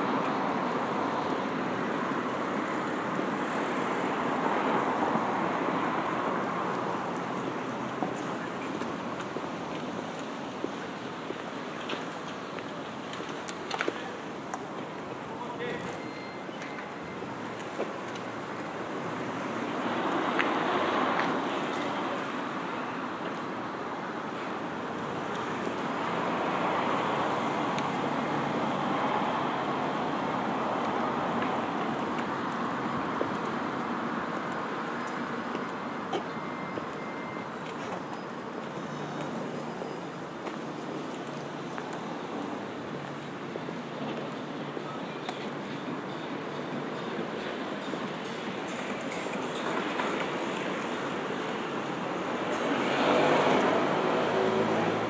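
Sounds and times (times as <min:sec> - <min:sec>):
cars passing on street: 0:00.0 - 0:55.0
city traffic rushing: 0:00.0 - 0:55.0.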